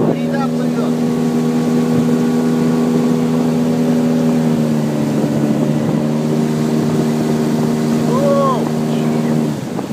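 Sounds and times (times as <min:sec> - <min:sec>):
outboard motor running: 0:00.0 - 0:09.9.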